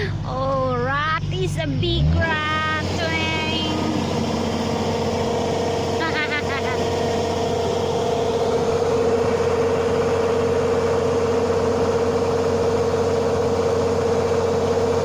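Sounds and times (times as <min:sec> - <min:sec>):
combine harvester droning: 0:00.0 - 0:15.0
machine whine: 0:01.5 - 0:15.0.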